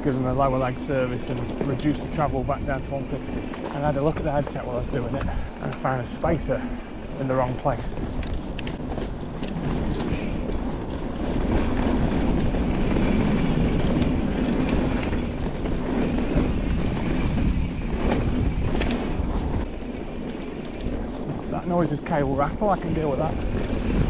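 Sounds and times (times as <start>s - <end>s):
bike tyre rumble on trail: 0.0s - 24.0s
cable rattling in bike frame: 0.0s - 24.0s.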